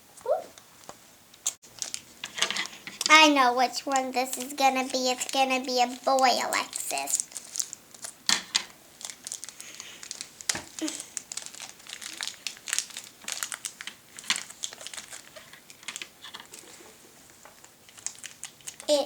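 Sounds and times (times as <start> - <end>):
packaging crinkling: 1.5 - 18.9.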